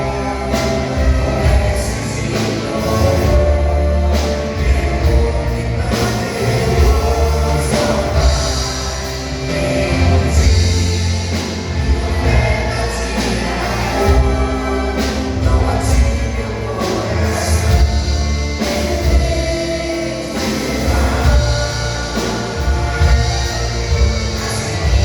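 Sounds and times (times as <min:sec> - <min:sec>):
band accompaniment: 0:00.0 - 0:25.0
strong bass line: 0:00.0 - 0:25.0
vocal group singing gospel: 0:00.0 - 0:25.0.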